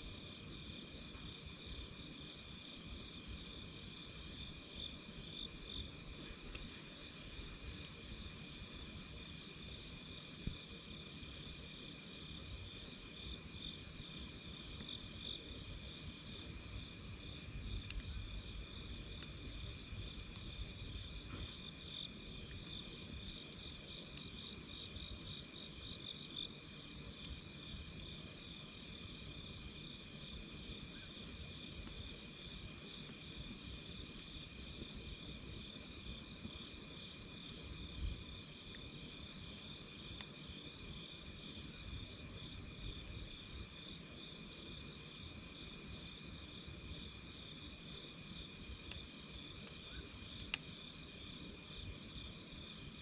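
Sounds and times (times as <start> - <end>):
insects chirring: 0.2 - 53.0.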